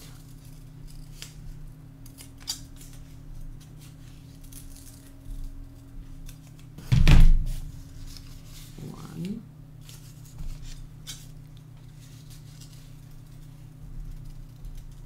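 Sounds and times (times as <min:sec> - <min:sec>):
scissors snipping paper: 0:00.0 - 0:06.8, 0:09.2 - 0:15.0
steady low hum: 0:00.0 - 0:15.0.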